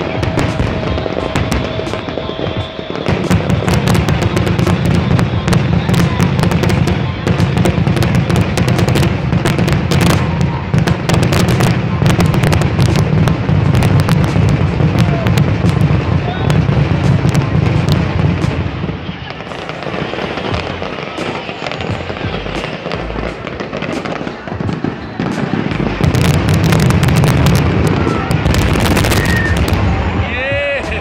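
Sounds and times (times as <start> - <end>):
fireworks crackling and banging: 0.0 - 31.0.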